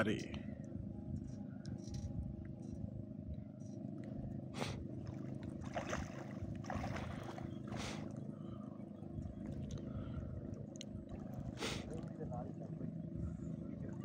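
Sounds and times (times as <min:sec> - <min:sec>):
boat motor running: 0:02.3 - 0:14.0.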